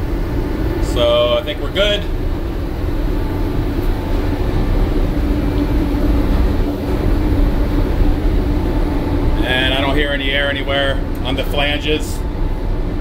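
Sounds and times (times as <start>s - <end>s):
shipboard machinery humming: 0.0s - 13.0s.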